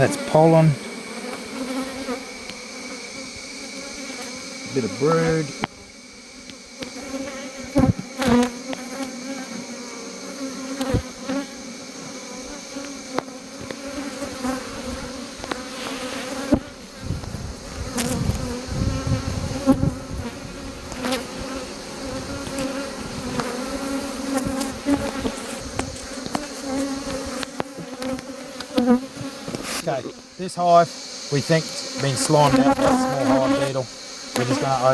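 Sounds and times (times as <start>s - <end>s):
honeybees buzzing: 0.0s - 34.9s.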